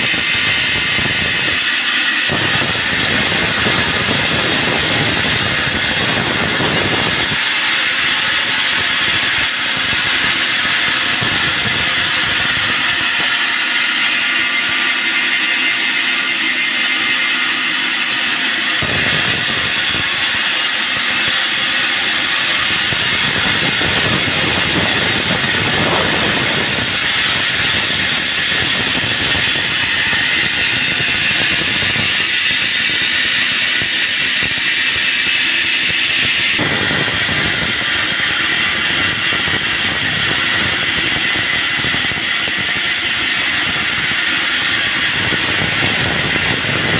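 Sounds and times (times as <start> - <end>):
band saw blade whine: 0.0 - 46.9.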